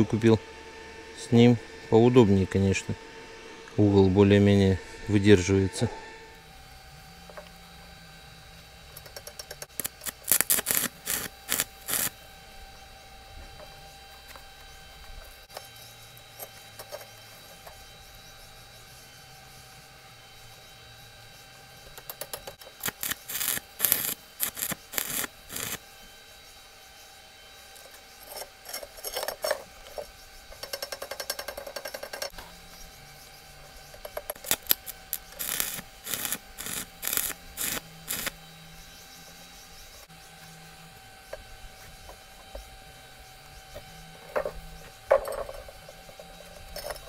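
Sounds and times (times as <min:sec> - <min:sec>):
arc welding crackling: 0:03.6 - 0:47.0.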